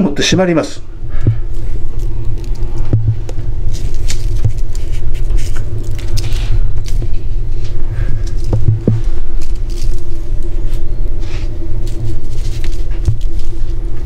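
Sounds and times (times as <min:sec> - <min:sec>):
loud low rumble: 0:00.0 - 0:14.0
steady hum: 0:00.0 - 0:14.0.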